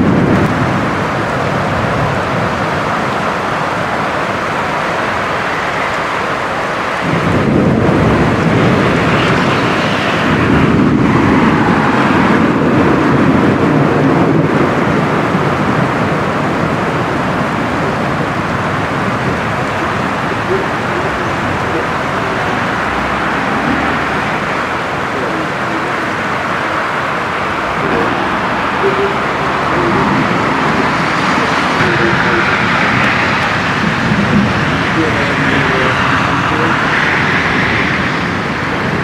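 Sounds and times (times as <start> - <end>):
heavy rain pouring: 0.0 - 39.0
low thunder rumble: 0.0 - 39.0.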